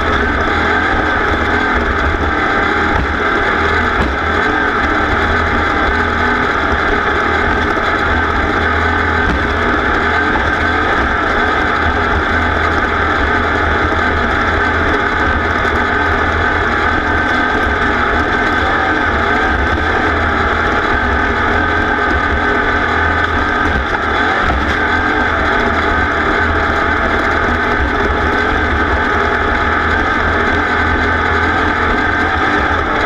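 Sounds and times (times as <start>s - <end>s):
racing engine running hard: 0.0s - 33.0s.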